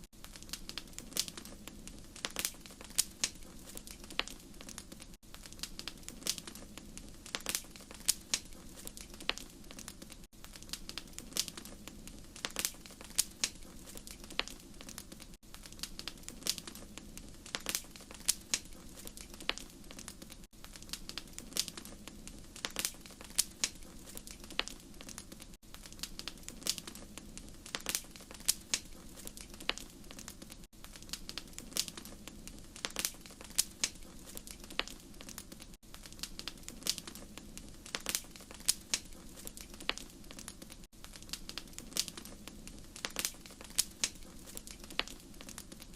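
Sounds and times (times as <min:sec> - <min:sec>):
wood fire crackling: 0:00.0 - 0:45.9
sharp pops of fire: 0:00.1 - 0:45.9.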